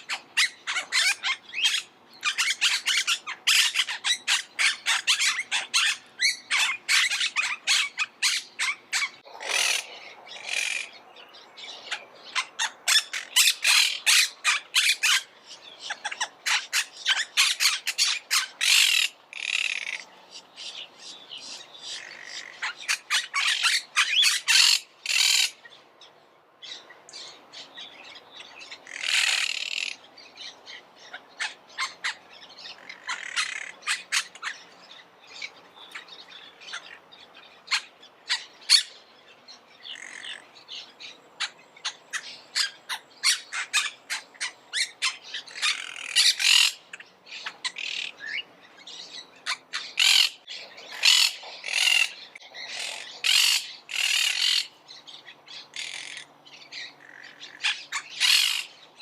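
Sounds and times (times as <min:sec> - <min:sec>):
parakeets squawking and chirping: 0:00.0 - 0:11.0, 0:11.8 - 0:20.1, 0:21.5 - 0:25.7, 0:26.7 - 0:58.8.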